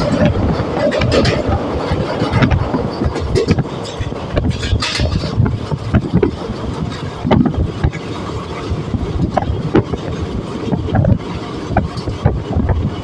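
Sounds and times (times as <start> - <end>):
train rumble: 0.0 - 13.0
wheels knocking on rails: 0.0 - 13.0
wind buffeting microphone: 0.0 - 13.0.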